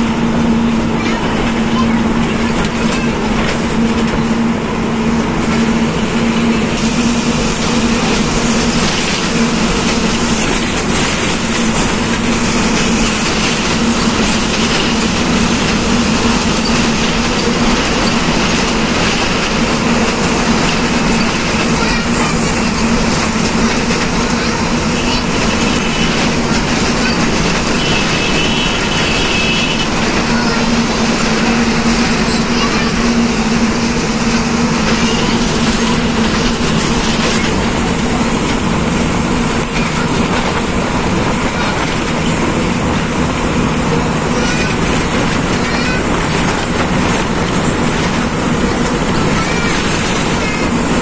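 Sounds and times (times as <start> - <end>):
road rumble: 0.0 - 51.0.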